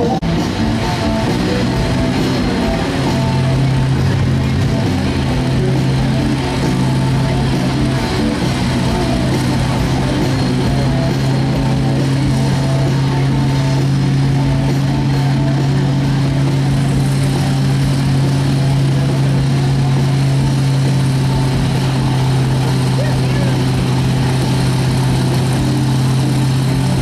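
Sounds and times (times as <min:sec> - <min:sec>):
truck engine running under load: 0:00.0 - 0:27.0.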